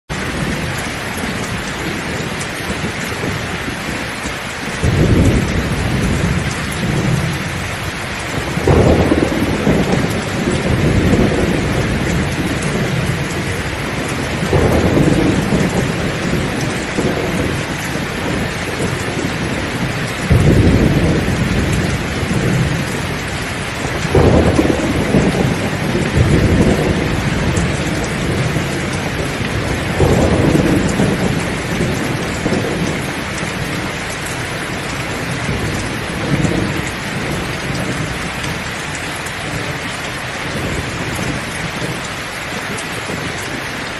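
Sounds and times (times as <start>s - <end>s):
heavy rain: 0.0s - 43.9s
thunder rumbling: 0.1s - 43.9s.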